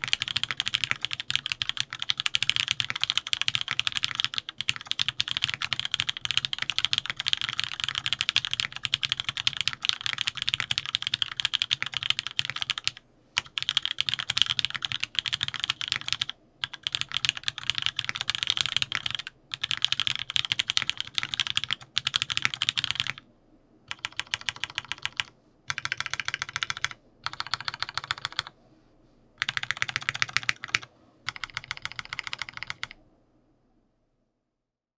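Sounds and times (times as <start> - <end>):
fast typing on mechanical keyboard: 0.0 - 23.2, 23.9 - 28.5, 29.4 - 33.0.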